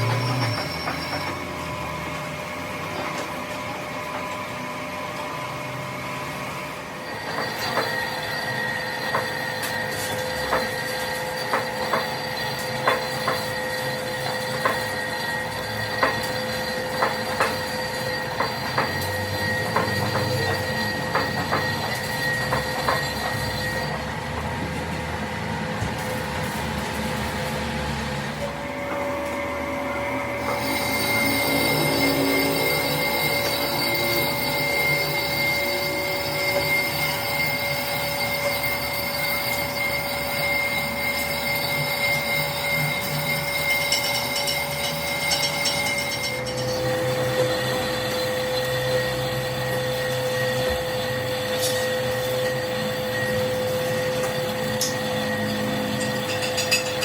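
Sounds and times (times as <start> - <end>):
machine screeching on metal: 0.0 - 57.0.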